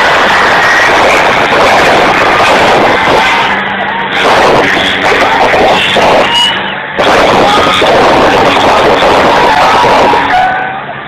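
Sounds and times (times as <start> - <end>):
crowd noise: 0.0 - 11.0
tractor engines under load: 0.0 - 11.0.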